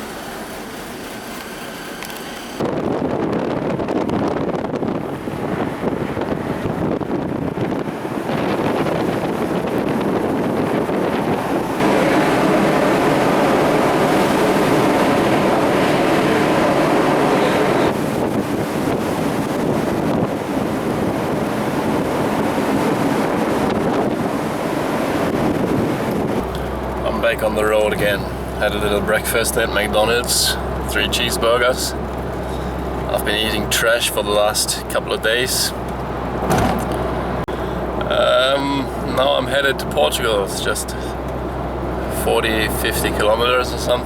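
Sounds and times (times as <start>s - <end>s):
ferry engine noise: 0.0s - 44.0s
sea: 0.0s - 44.0s
wind buffeting microphone: 2.6s - 44.0s.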